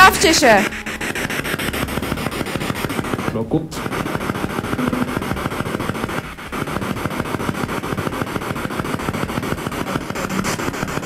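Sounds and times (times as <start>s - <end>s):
radio static chopping: 0.0s - 11.0s.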